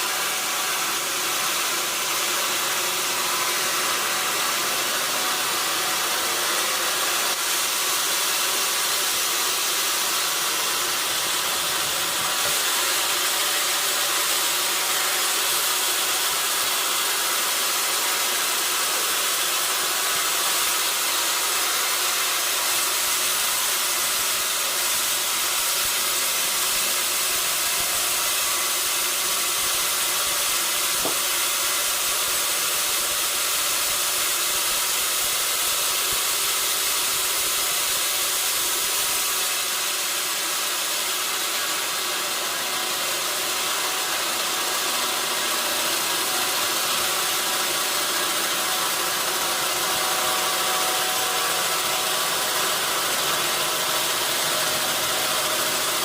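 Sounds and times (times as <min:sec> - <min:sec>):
saw cutting through log: 0:00.0 - 0:56.0.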